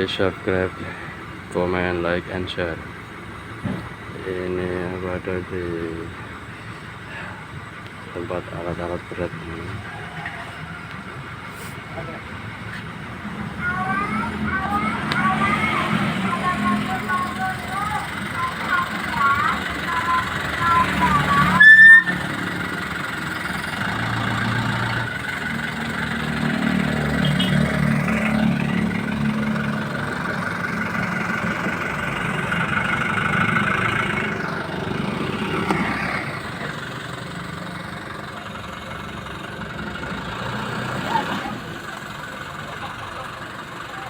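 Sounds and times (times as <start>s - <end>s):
heavy equipment engine running: 0.0s - 44.0s.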